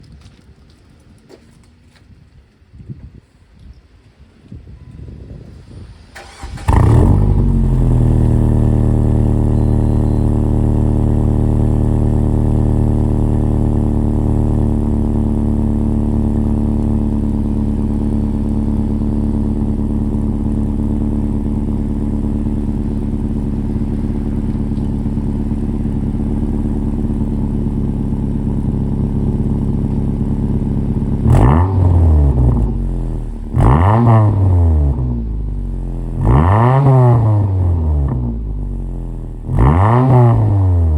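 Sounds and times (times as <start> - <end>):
car engine idling: 6.2 - 36.6, 37.2 - 39.7
engine revving: 6.2 - 40.9.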